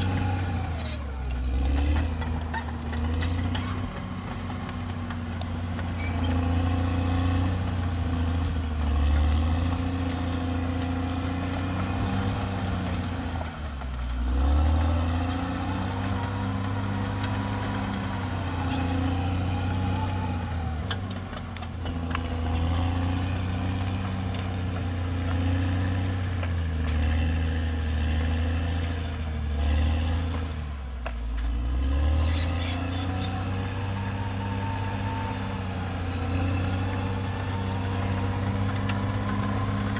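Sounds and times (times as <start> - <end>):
high-pitched running gear squeaks: 0.0 - 8.6, 9.8 - 26.4, 32.1 - 39.9
bulldozer diesel engine under load: 0.0 - 39.9.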